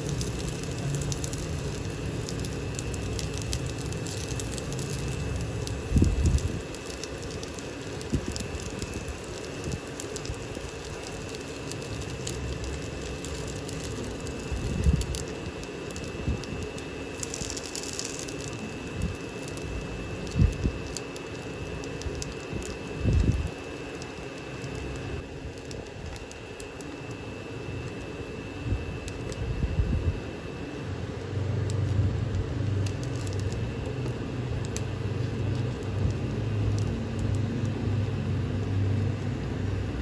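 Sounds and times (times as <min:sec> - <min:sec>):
dumplings sizzling in hot oil: 0:00.0 - 0:40.0.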